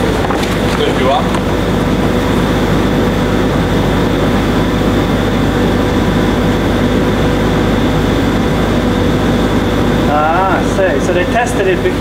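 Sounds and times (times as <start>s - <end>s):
machine droning: 0.0s - 12.0s.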